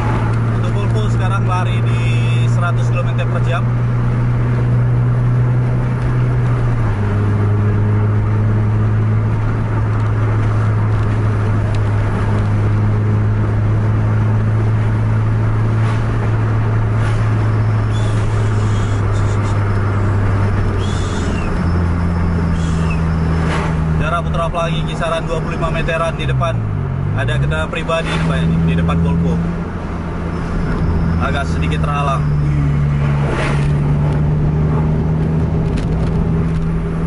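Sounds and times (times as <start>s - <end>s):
car engine drone: 0.0s - 37.0s
tyre and road noise: 0.0s - 37.0s.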